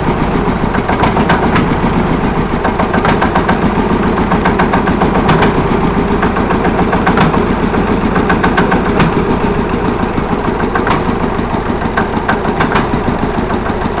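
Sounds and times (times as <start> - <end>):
sharp engine clacks: 0.0 - 14.0
two-cylinder marine engine running: 0.0 - 14.0.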